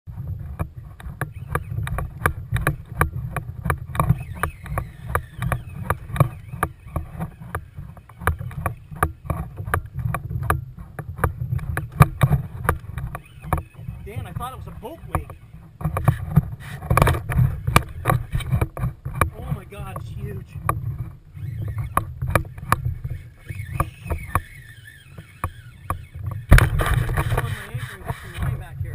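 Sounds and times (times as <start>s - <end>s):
wind rumble on microphone: 0.1s - 24.4s, 25.5s - 28.9s
rapid regular clicking: 0.5s - 28.9s.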